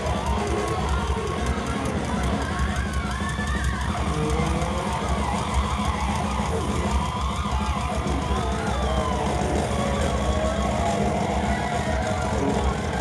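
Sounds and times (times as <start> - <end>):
thrash metal band playing live: 0.0 - 13.0.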